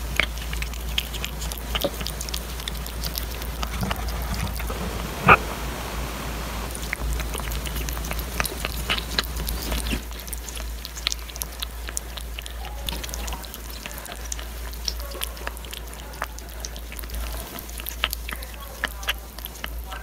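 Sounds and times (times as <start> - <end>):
kitten chewing and licking: 0.0 - 20.0
steady low hum: 0.0 - 20.0.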